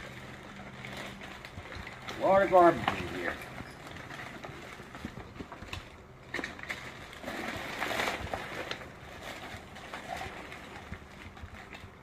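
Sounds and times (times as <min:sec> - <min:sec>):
items knocking: 0:00.0 - 0:12.0
plastic bag rustling: 0:00.0 - 0:12.0.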